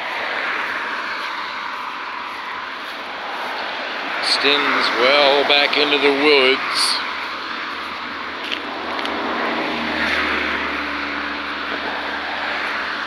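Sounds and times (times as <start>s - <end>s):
passing motor vehicle: 0.0s - 13.0s.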